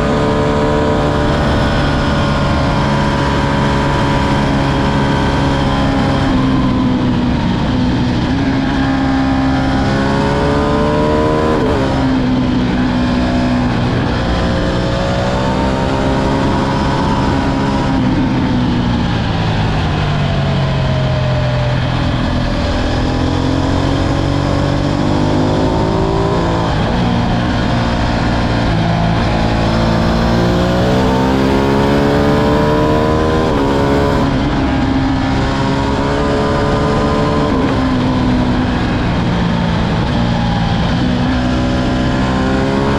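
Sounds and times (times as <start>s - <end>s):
motorcycle engine accelerating hard: 0.0s - 42.9s.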